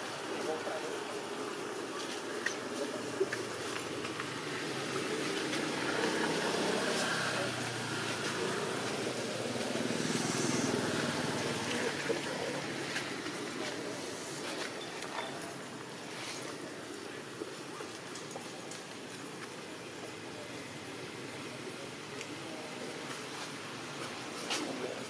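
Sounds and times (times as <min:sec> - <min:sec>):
faint voices: 0:00.0 - 0:25.0.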